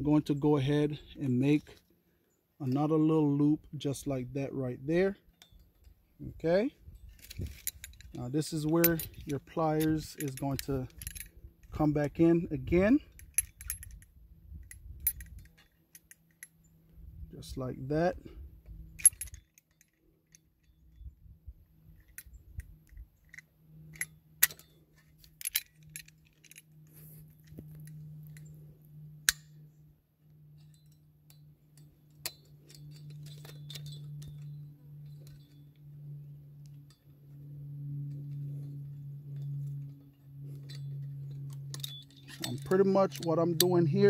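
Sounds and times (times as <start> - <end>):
faint low hum: 0.0 - 44.0
wire clinking and scraping on metal: 2.6 - 44.0.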